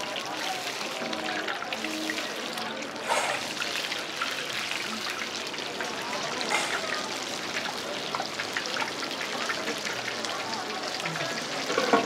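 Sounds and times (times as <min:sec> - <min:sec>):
frying oil sizzling and popping: 0:00.0 - 0:12.0.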